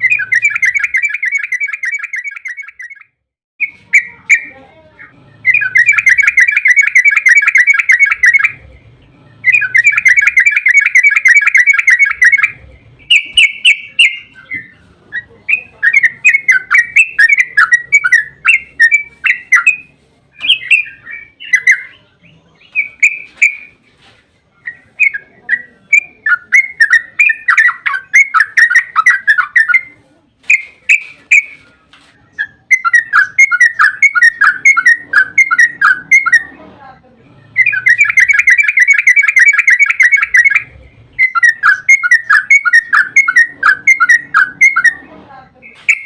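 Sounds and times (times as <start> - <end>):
bulbul singing chattering notes: 0.0 - 23.8, 24.6 - 36.5, 37.4 - 45.0, 45.6 - 46.0.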